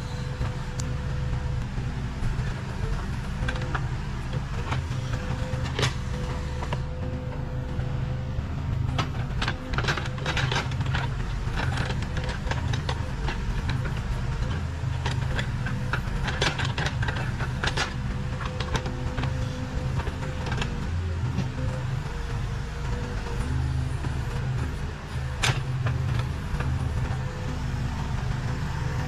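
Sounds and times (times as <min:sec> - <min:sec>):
diesel engine running: 0:00.0 - 0:29.0
machine knocking and scraping soil: 0:00.0 - 0:29.0
thin steady whine: 0:00.0 - 0:29.0.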